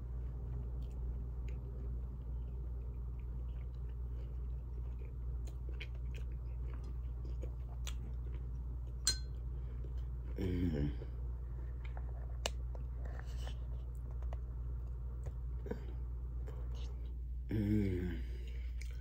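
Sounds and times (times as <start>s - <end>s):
person chewing food: 0.0s - 17.3s, 18.2s - 19.0s
steady low hum: 0.0s - 19.0s.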